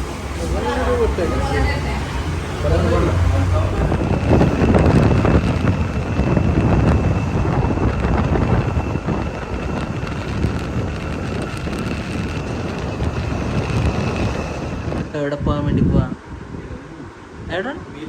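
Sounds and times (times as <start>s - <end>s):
vehicle running: 0.0s - 15.2s
wind buffeting microphone: 0.0s - 18.0s.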